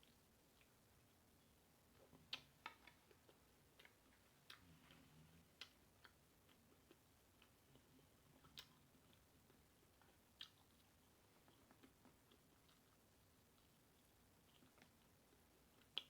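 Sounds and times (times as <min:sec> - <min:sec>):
person chewing with mouth smacking: 0:00.0 - 0:16.0.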